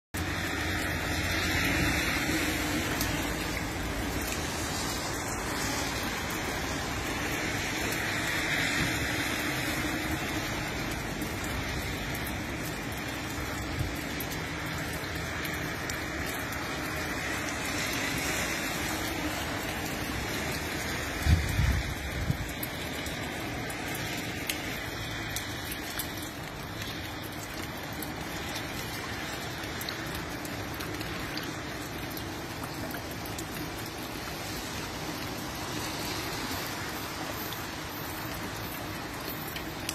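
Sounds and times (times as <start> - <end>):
rain hissing: 0.2 - 39.9.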